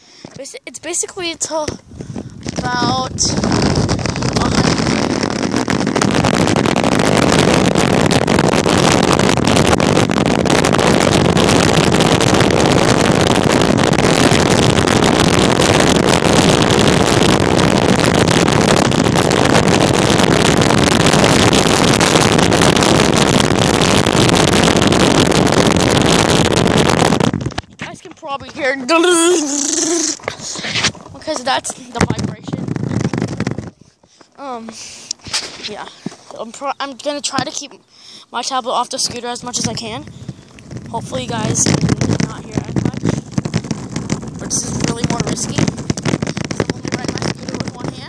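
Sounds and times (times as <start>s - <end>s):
scooter wheels rolling on asphalt: 0.3s - 24.9s, 26.0s - 37.8s, 38.4s - 48.0s.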